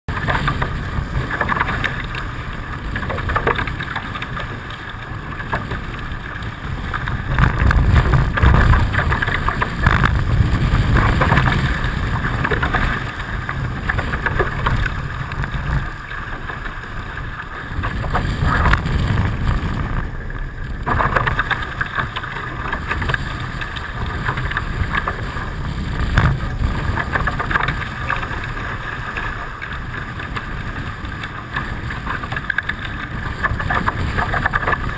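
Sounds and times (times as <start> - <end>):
water rushing along hulls: 0.1 - 34.9
wind buffeting microphone: 0.1 - 34.9.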